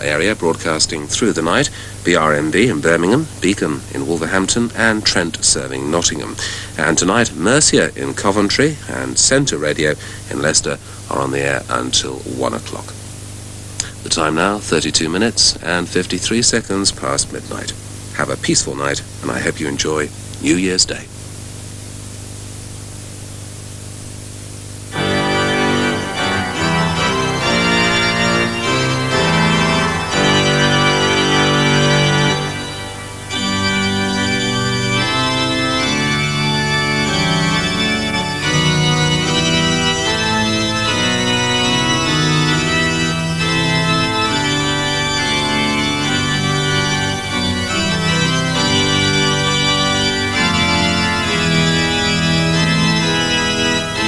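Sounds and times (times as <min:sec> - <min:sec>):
organ playing sustained chords: 0:00.0 - 0:21.0, 0:24.8 - 0:54.0
tape hiss: 0:00.0 - 0:54.0.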